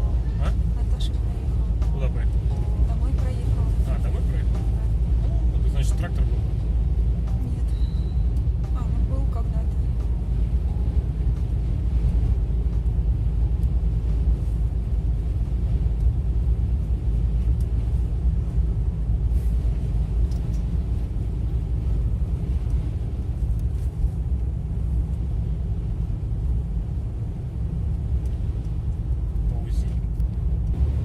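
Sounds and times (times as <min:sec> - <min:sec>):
car driving rumble from inside: 0:00.0 - 0:31.0.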